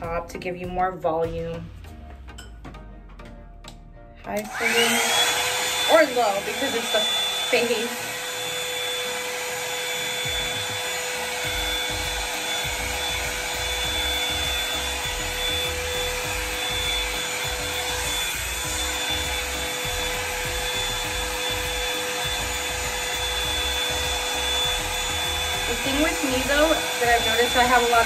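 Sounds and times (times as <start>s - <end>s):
hot-air brush blowing: 4.4s - 28.0s
motor whine: 4.4s - 28.0s.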